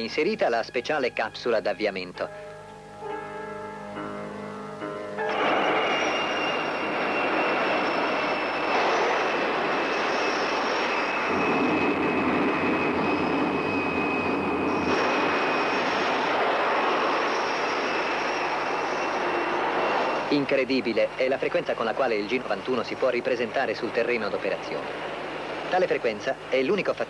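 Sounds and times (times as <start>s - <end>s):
high-pitched whine: 0.0s - 27.0s
jet engine rushing: 5.2s - 27.0s.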